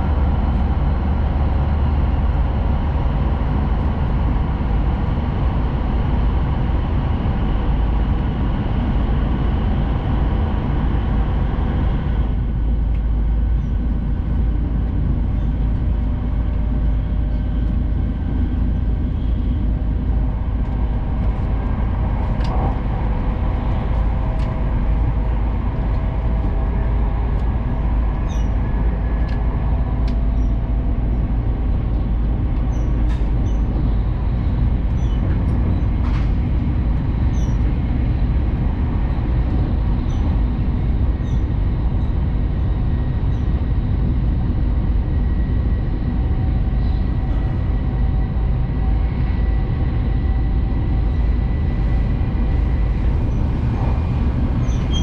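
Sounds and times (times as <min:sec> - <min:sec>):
train rumble and hiss: 0:00.0 - 0:55.0.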